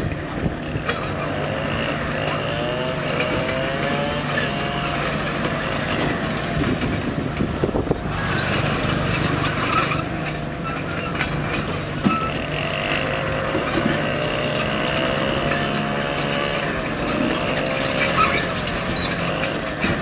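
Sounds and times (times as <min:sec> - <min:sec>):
bulldozer diesel engine working: 0:00.0 - 0:20.0.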